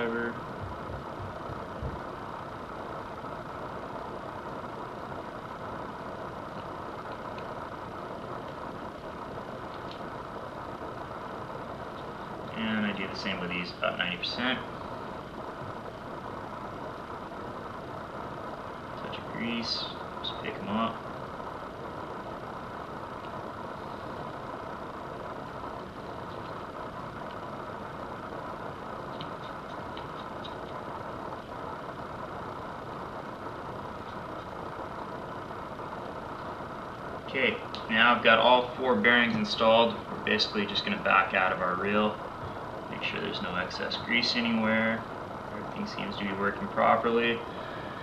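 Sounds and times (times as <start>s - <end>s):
steady background hum: 0.0s - 48.0s.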